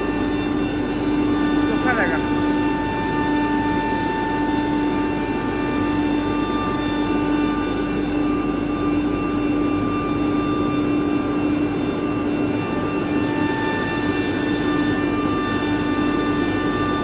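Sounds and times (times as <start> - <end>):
cnc router whining: 0.0 - 17.0.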